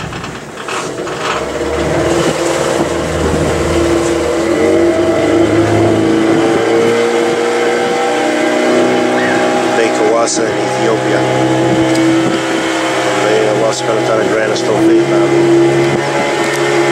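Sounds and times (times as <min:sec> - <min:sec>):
vehicle engine speeding up: 0:00.8 - 0:16.9.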